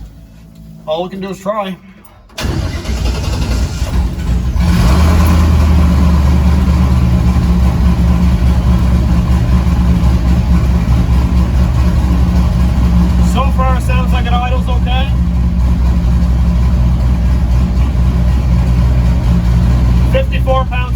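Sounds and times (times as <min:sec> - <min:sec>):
car engine starting and idling: 0:00.0 - 0:20.9.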